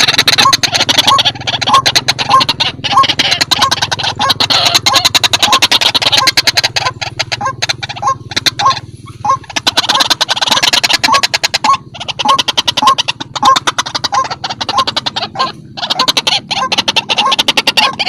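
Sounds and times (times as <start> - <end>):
rapid clicking chatter: 0.0 - 18.0
waterhen croaking call: 0.0 - 18.0.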